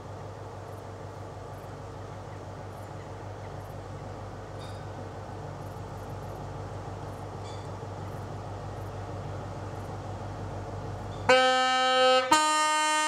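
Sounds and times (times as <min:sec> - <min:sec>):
train diesel engine running: 0:00.0 - 0:13.0.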